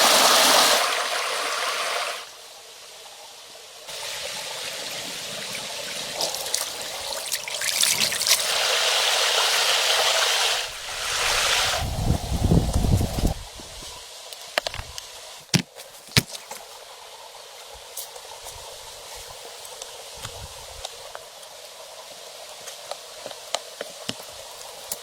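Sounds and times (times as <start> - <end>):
water trickling and running: 0.0 - 25.0.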